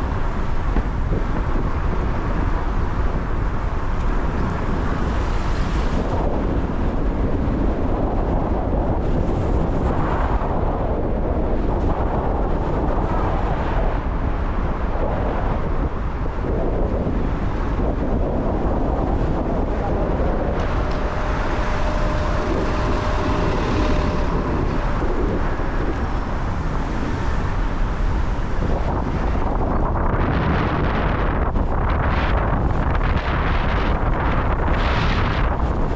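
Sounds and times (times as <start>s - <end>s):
road and tyre noise: 0.0s - 35.9s
wind rumble on microphone: 0.0s - 35.9s.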